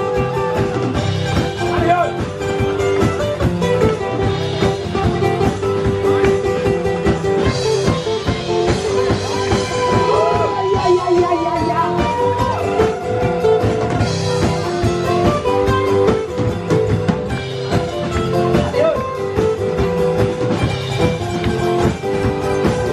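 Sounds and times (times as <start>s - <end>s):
acoustic guitars strumming: 0.0s - 22.9s
guitar lead with bent notes: 0.0s - 22.9s.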